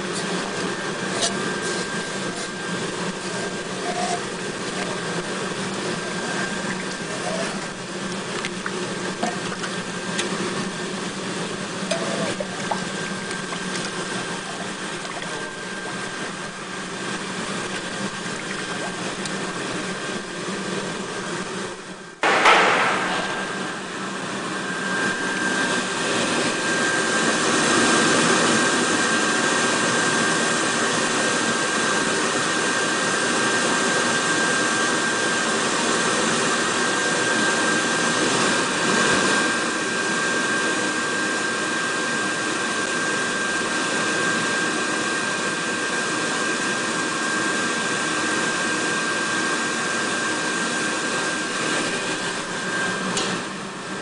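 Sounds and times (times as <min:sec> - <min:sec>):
induction cooker rushing whine: 0:00.0 - 0:54.0.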